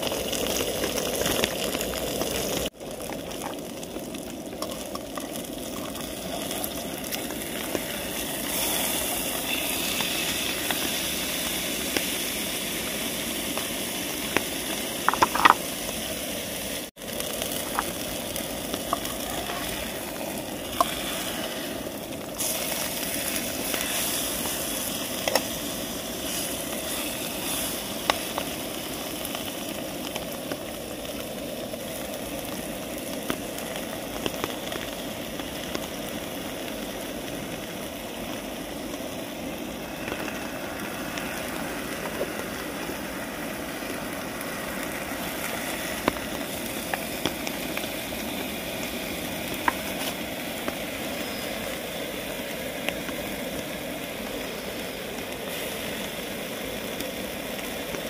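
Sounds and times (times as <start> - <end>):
steak sizzling in a frying pan: 0.0 - 58.0.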